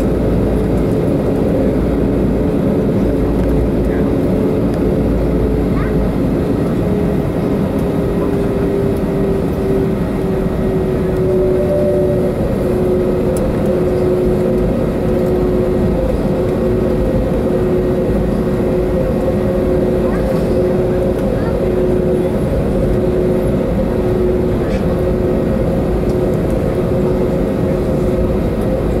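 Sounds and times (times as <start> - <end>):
higher engine tone: 0.0 - 29.0
jet engines droning in cabin: 0.0 - 29.0.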